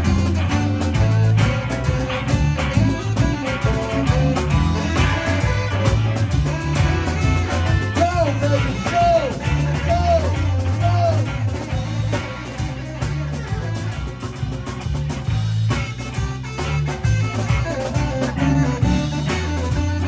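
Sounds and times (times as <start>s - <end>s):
bass line: 0.0s - 20.0s
guitar bending notes: 0.0s - 20.0s
live blues band playing: 0.0s - 20.0s.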